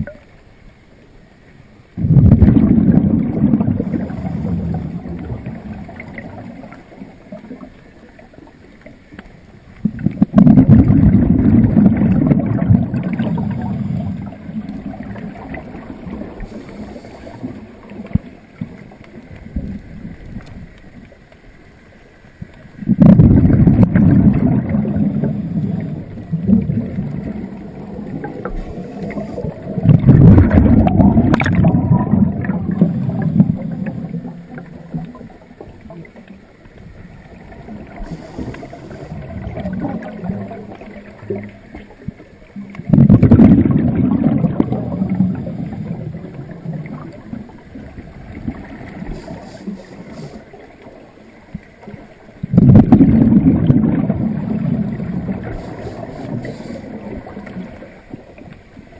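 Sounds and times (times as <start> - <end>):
air bubbling from diver's regulator: 2.0 - 8.3, 9.8 - 20.7, 22.8 - 51.0, 51.6 - 58.6.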